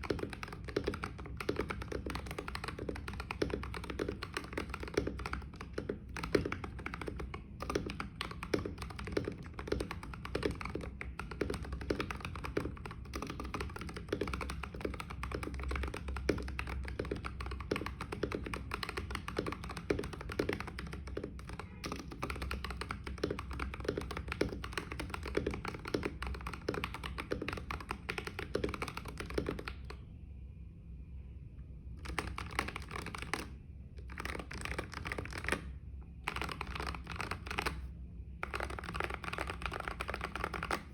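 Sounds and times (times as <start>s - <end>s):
mechanical keyboard typing: 0.0s - 30.0s, 32.0s - 40.9s.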